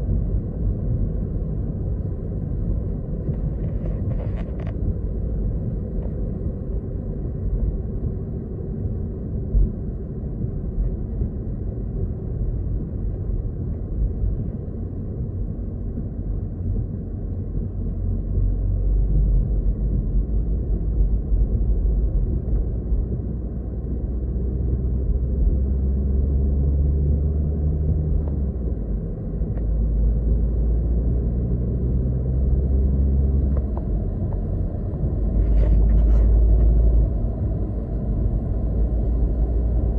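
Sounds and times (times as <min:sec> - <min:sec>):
car engine hum: 0:00.0 - 0:39.9
road noise rumble: 0:00.0 - 0:39.9.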